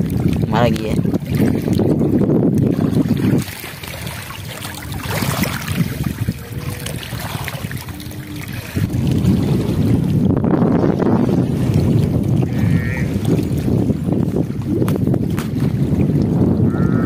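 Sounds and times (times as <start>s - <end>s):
small waves lapping bank: 0.0s - 17.0s
wind buffeting microphone: 0.0s - 17.0s.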